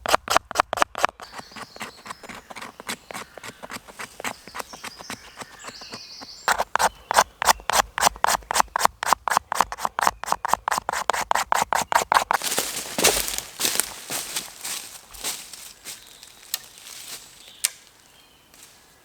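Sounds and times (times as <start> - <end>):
hand tool working wood: 0.0 - 15.4.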